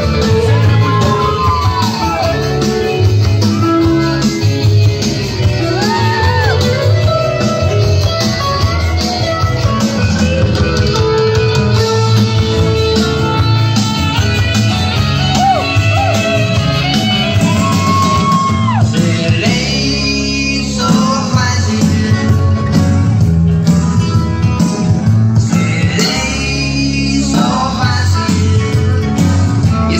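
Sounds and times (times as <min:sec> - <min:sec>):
rock song with singing and guitar: 0:00.0 - 0:29.9.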